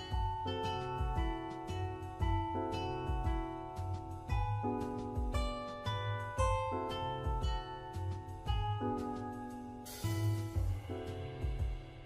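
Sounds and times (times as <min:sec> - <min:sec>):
low beat: 0:00.0 - 0:12.0.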